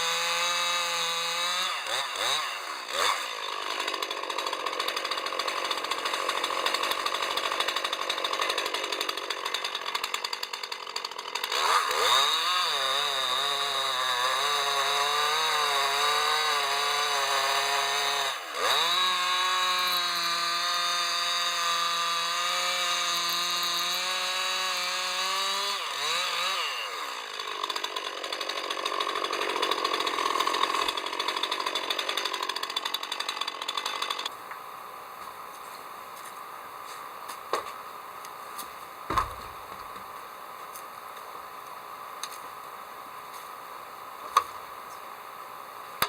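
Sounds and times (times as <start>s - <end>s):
two-stroke chainsaw running: 0.0s - 46.0s.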